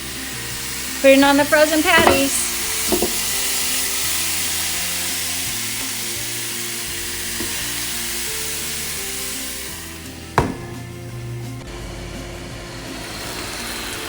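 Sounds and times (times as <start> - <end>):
background music: 0.0 - 14.0
meat patties sizzling on grill: 0.0 - 14.0.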